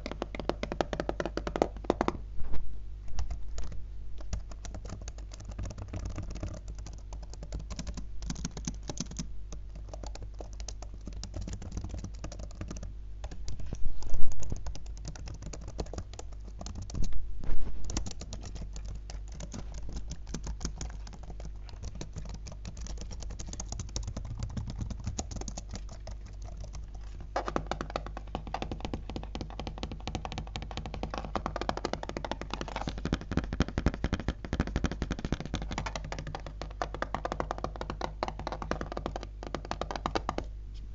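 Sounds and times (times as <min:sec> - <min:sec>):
fast typing on laptop keyboard: 0:00.0 - 0:02.2, 0:03.2 - 0:17.1, 0:17.9 - 0:40.5.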